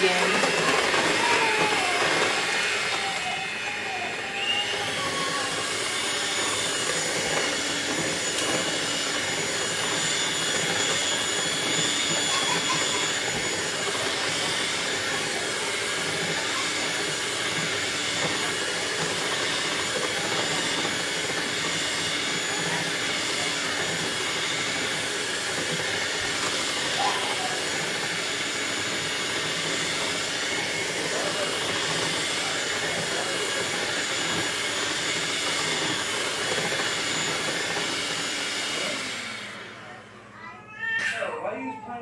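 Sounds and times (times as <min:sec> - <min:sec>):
electric hand mixer whirring: 0:00.0 - 0:42.0.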